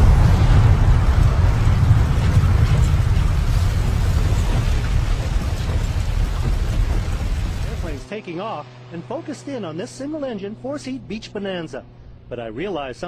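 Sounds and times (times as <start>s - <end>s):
jet skidding through sand: 0.0s - 12.5s.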